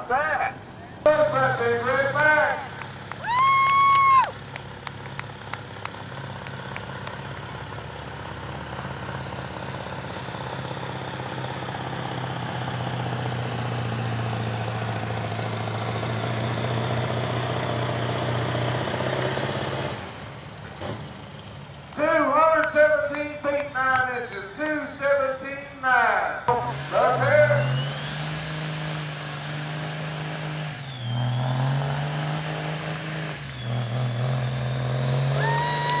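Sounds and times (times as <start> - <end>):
diesel truck engine under load: 0.0 - 36.0.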